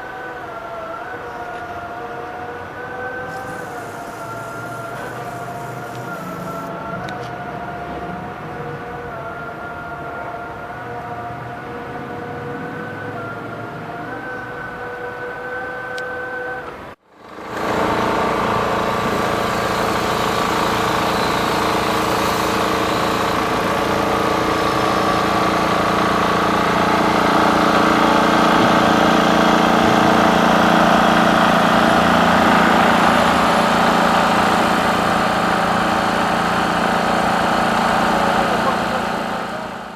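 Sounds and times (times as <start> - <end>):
engine running steadily: 0.0 - 10.8, 12.5 - 39.9.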